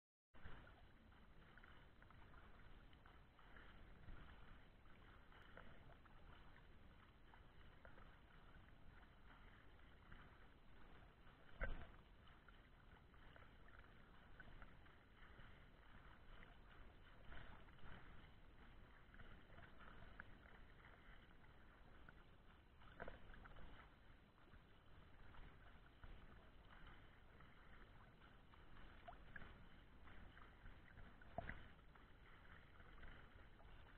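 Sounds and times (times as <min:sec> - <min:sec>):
swimmer splashing: 0:00.4 - 0:33.9
water sloshing and lapping: 0:00.4 - 0:33.9.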